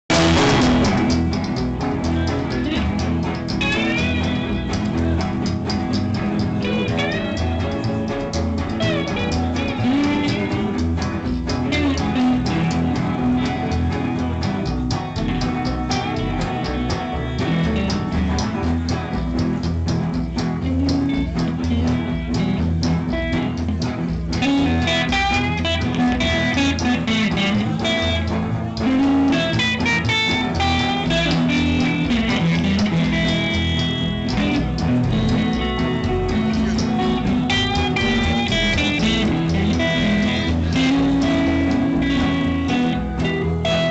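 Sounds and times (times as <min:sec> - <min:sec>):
band playing blues-rock: 0:00.0 - 0:43.9
electric guitar bending notes: 0:00.0 - 0:43.9.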